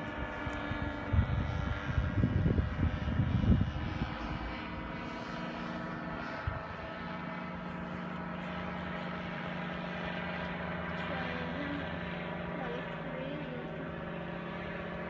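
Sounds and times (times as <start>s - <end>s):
low rumbling buffets: 0.0s - 15.0s
paramotor engine running: 0.0s - 15.0s.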